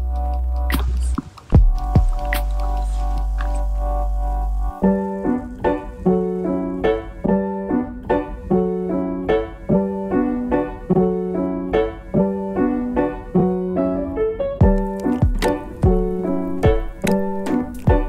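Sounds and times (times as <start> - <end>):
piano repeating pattern: 0.0 - 18.0.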